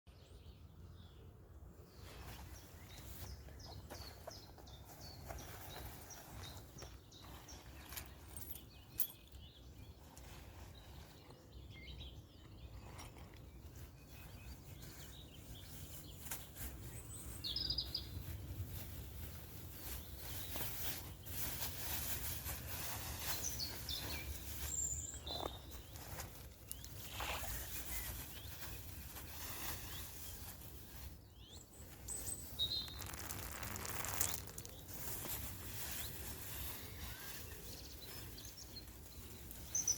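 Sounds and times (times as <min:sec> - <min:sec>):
small birds singing: 0:00.1 - 0:39.9.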